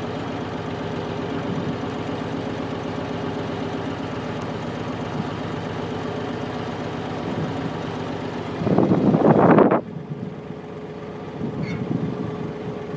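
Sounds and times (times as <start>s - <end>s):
boat engine running: 0.0s - 12.9s.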